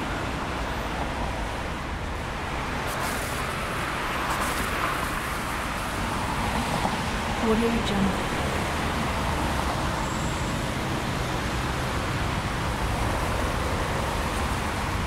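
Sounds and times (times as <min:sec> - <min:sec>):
tyres hissing on wet road: 0:02.2 - 0:07.6, 0:08.2 - 0:15.0.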